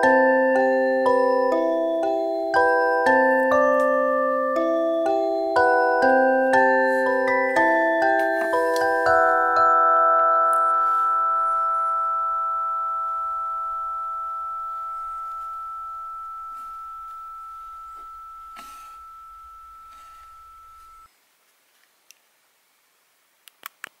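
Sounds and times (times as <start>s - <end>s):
held music chord: 0.0s - 21.1s.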